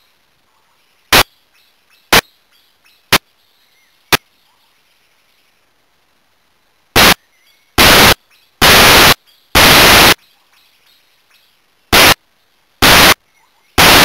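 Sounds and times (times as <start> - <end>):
static hiss blasts: 0.0 - 14.0.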